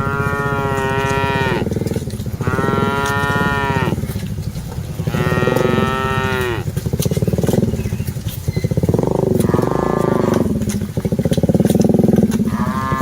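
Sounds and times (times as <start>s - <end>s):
cattle mooing: 0.0s - 13.0s.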